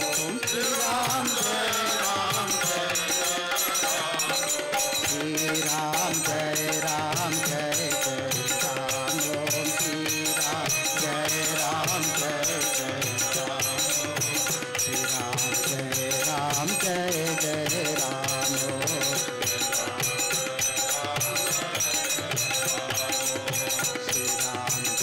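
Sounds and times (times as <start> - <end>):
harmonium: 0.0 - 25.0
jingling hand percussion: 0.0 - 25.0
men singing in unison: 0.0 - 25.0
tabla: 0.0 - 25.0.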